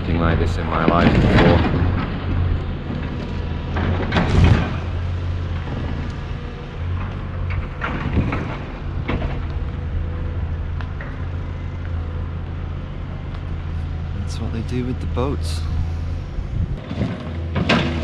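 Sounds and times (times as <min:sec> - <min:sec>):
diesel engine running: 0:00.0 - 0:18.0
boat hull crunching: 0:00.2 - 0:18.0.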